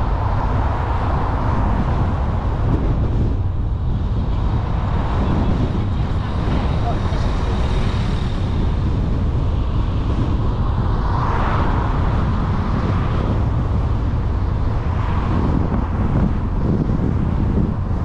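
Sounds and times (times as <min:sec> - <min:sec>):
tyre and wind noise rumble: 0:00.0 - 0:18.0.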